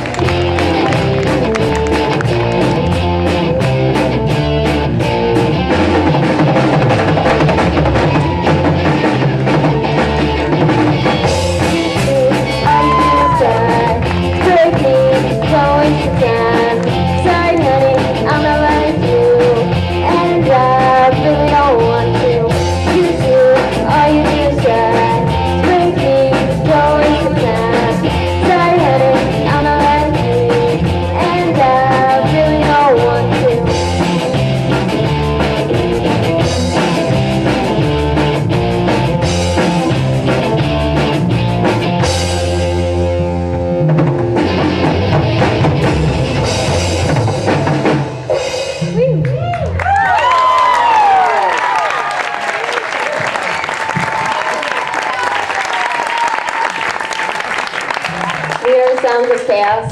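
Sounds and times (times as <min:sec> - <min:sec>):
electric guitar lead melody: 0:00.0 - 0:49.7
drum kit beat: 0:00.0 - 0:51.2
bass guitar: 0:00.0 - 0:59.9.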